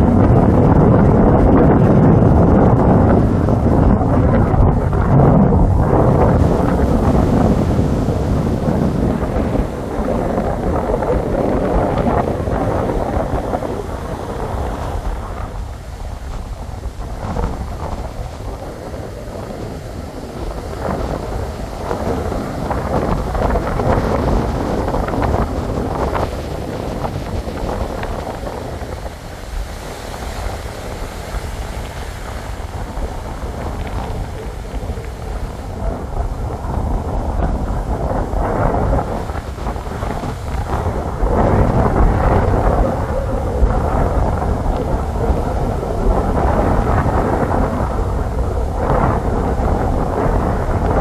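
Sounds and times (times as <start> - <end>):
surf breaking on beach: 0.0 - 51.0
wind buffeting microphone: 0.0 - 51.0.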